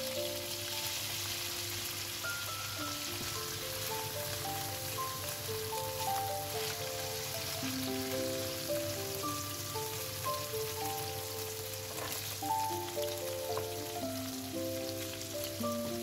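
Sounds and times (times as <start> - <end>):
food sizzling in oil: 0.0 - 16.0
melodic background music: 0.0 - 16.0.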